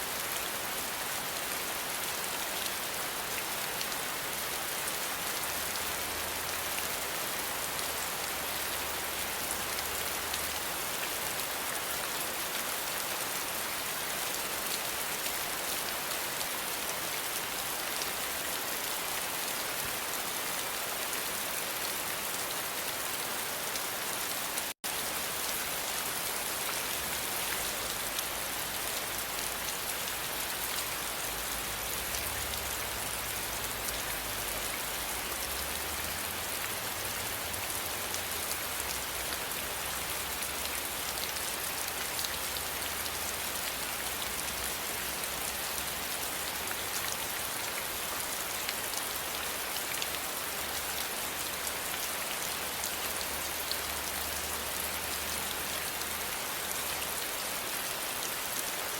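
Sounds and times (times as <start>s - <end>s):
rain falling on a surface: 0.0s - 58.9s.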